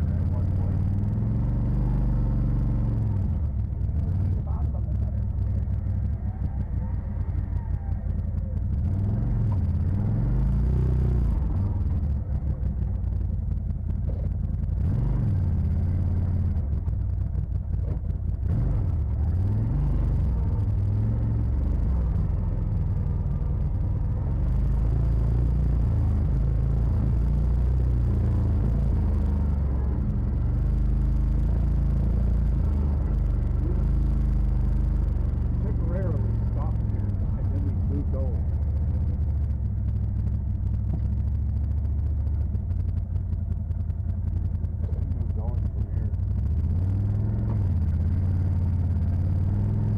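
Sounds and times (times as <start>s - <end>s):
utility vehicle engine droning: 0.0s - 49.9s.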